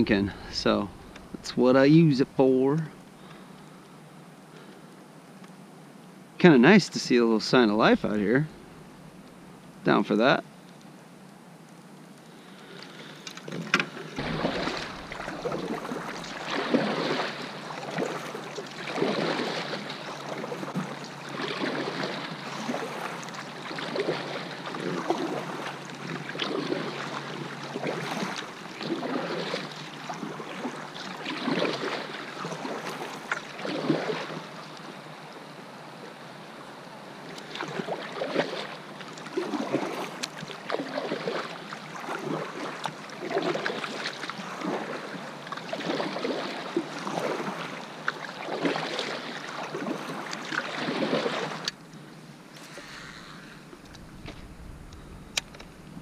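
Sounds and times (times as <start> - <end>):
kayak paddle splashing: 0.0 - 4.9, 12.3 - 56.0.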